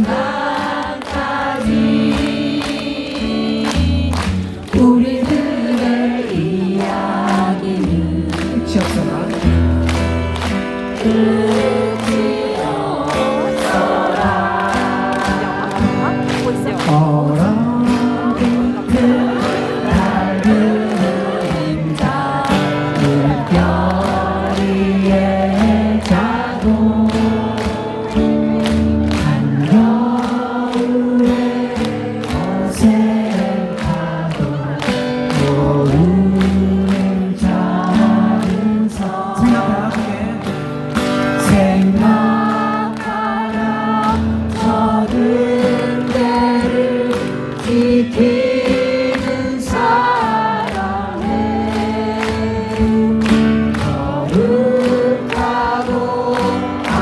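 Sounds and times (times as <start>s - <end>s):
crowd singing along: 0.0s - 57.0s.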